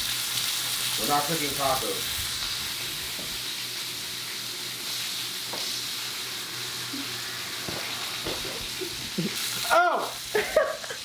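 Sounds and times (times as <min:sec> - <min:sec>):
steak sizzling in a pan: 0:00.0 - 0:11.0.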